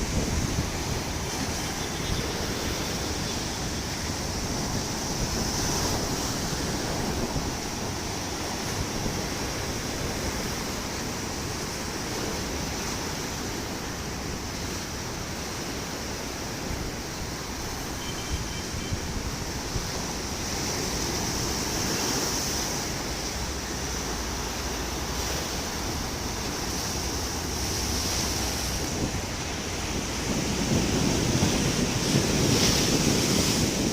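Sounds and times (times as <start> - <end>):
sea waves washing ashore: 0.0 - 33.9
wind rumbling on microphone: 0.0 - 33.9.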